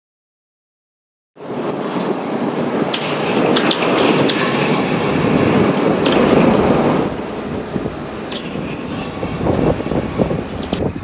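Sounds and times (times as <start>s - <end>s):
heavy machinery rumbling: 1.4s - 11.0s.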